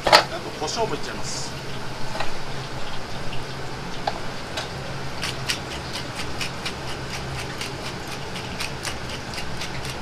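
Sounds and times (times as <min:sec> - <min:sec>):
low kitchen hum: 0:00.0 - 0:10.0.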